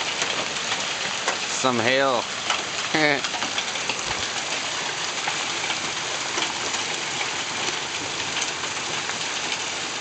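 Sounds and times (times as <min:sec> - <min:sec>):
hailstones ticking: 0:00.0 - 0:10.0
heavy rain: 0:00.0 - 0:10.0.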